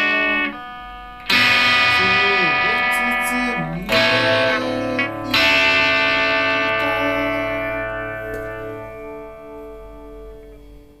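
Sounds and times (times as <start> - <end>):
guitar chord ringing: 0.0 - 11.0.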